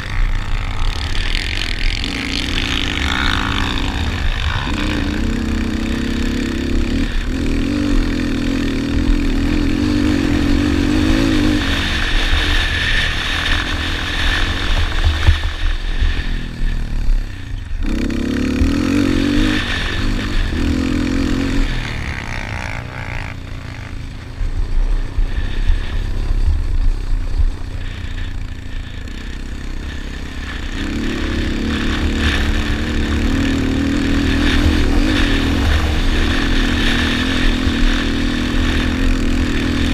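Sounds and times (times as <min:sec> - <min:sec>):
quad engine revving: 0:00.0 - 0:39.9
wind rumble on microphone: 0:00.0 - 0:39.9.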